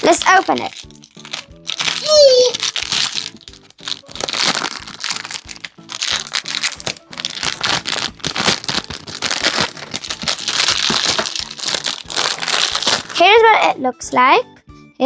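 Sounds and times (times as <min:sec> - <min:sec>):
packaging crinkling: 0:00.0 - 0:13.2
background music: 0:00.0 - 0:15.0.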